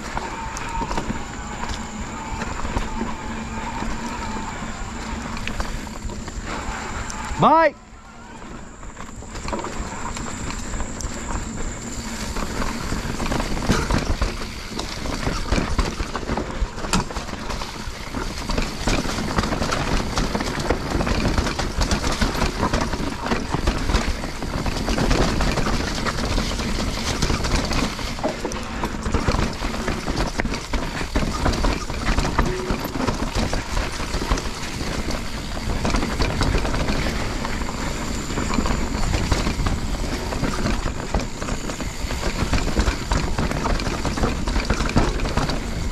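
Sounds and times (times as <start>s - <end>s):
bike chain and frame rattling: 0.0s - 45.9s
bike tyres rolling over stones: 0.0s - 45.9s.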